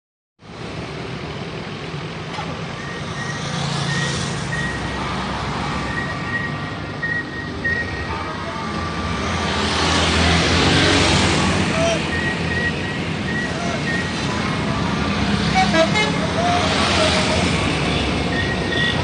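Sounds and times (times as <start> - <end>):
bus engine humming: 0.6 - 19.0.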